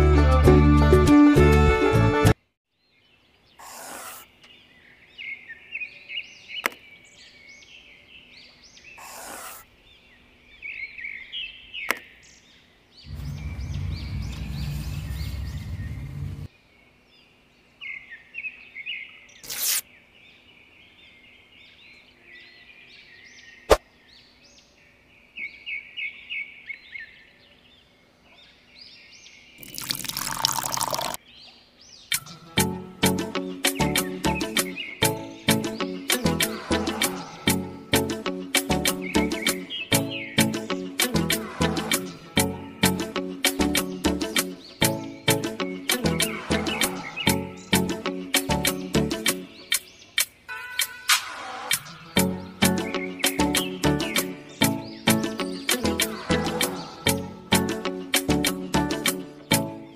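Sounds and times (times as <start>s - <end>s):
small birds chirping: 2.7s - 50.5s, 51.7s - 59.9s.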